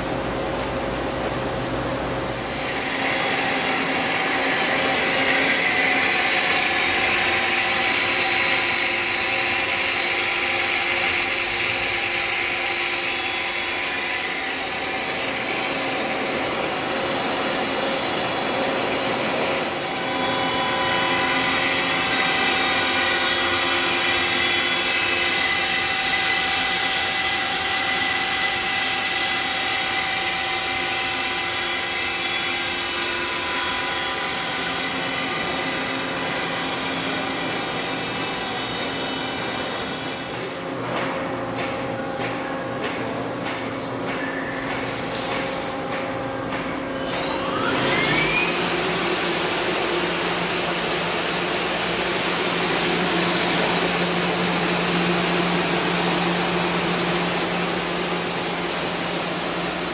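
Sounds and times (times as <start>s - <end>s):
lathe machine whine: 0.0s - 59.9s.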